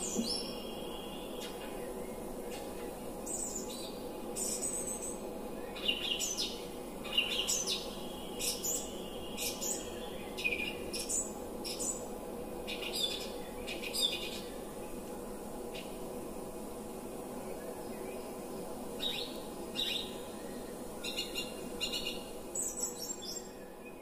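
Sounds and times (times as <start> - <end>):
songbirds chirping: 0.0 - 24.0
steady low hum: 0.0 - 24.0.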